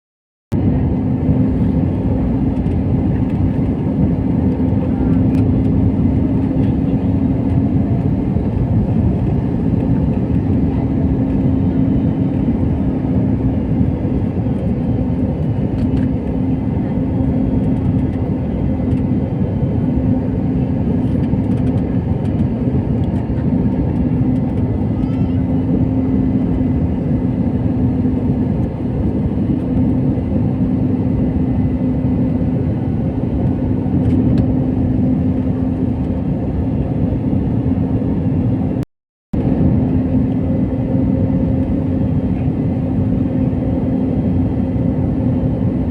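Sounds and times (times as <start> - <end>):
airliner cabin drone: 0.5 - 38.8, 39.4 - 45.9.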